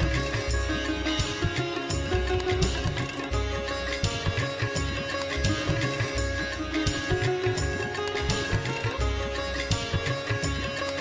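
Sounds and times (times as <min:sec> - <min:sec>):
plucked-string melody: 0:00.0 - 0:11.0.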